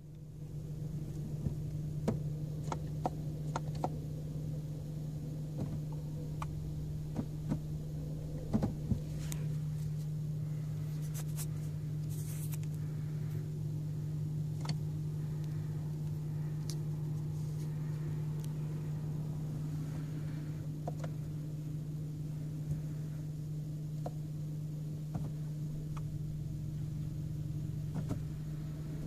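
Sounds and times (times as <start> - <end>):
car cabin hum: 0.0 - 29.0.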